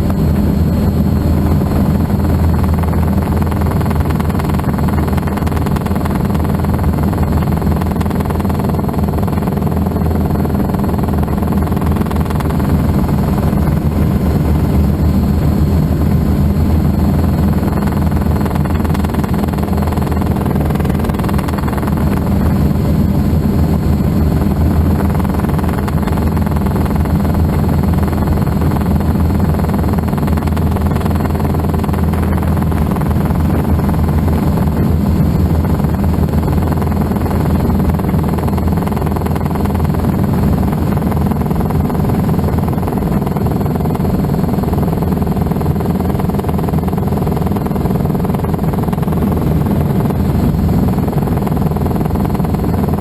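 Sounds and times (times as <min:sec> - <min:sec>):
helicopter engine and rotor drone: 0:00.0 - 0:53.0.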